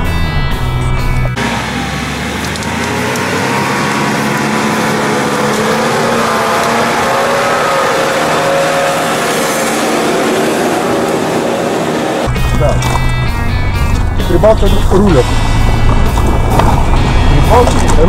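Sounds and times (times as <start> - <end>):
off-roader engine revving: 0.0 - 18.0.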